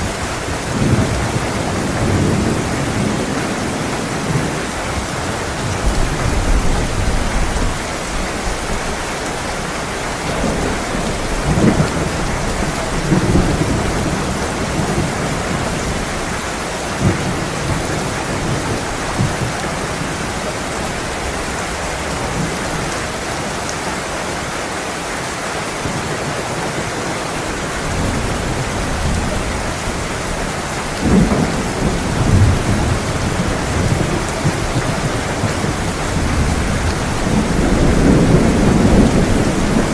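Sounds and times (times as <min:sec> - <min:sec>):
thunder rumbling: 0:00.0 - 0:23.0, 0:27.3 - 0:39.9
heavy rain falling: 0:00.0 - 0:39.9.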